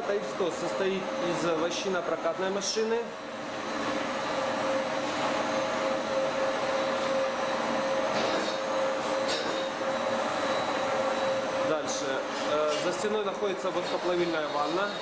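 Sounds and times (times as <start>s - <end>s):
machine drive humming and whining: 0.0s - 15.0s.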